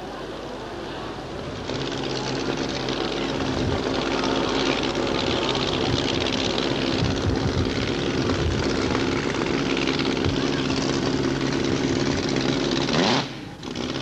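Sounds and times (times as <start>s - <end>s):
race car engine idling: 0.5s - 14.0s.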